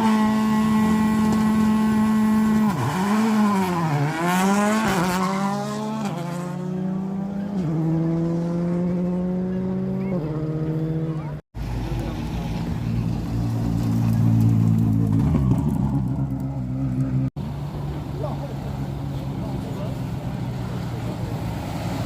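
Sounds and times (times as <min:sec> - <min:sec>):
diesel truck engine accelerating: 0:00.0 - 0:22.0.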